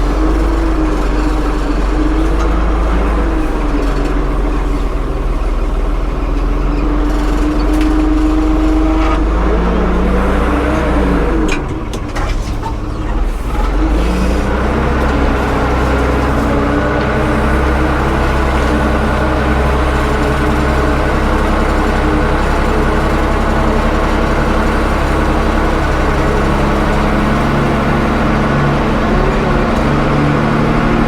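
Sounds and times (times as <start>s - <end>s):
motor humming: 0.0s - 31.0s.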